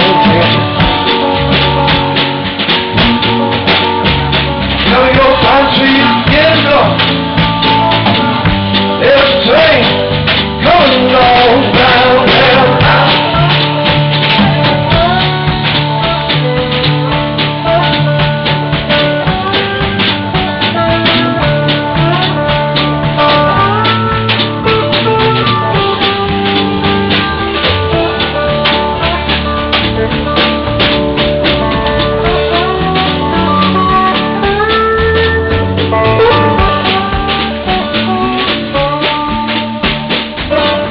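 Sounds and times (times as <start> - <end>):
percussion beat: 0.0 - 40.9
slide guitar: 0.0 - 40.9.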